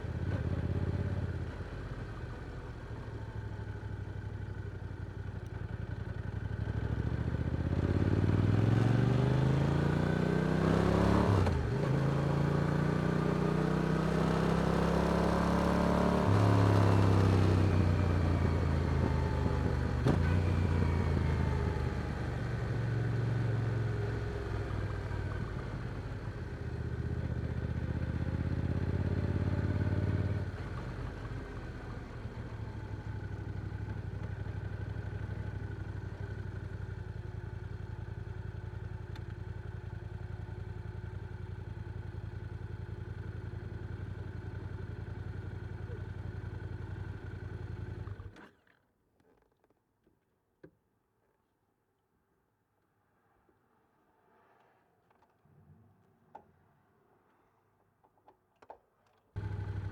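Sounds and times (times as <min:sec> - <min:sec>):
motorcycle engine revving and idling: 0:00.0 - 0:48.6, 0:59.4 - 0:59.9.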